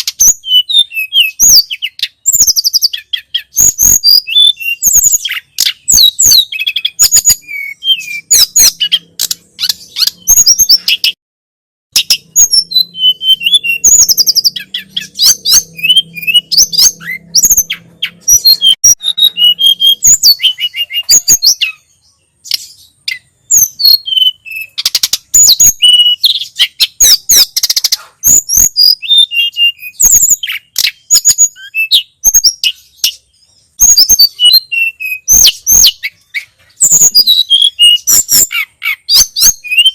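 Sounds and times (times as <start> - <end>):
songbird chirps and trills: 0.0 - 11.2, 11.9 - 39.9.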